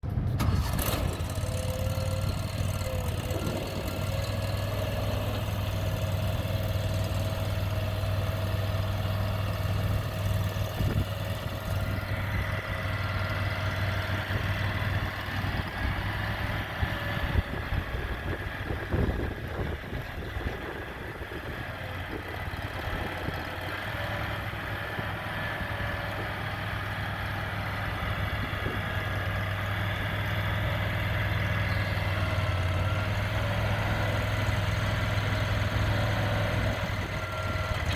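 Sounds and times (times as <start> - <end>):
loader engine idling: 0.0 - 37.9.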